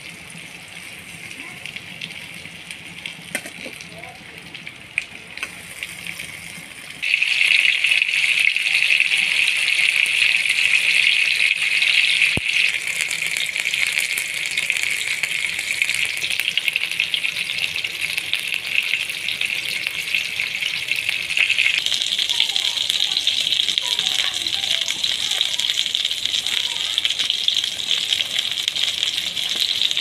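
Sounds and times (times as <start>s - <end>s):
chicken sizzling in hot oil: 0.0s - 30.0s.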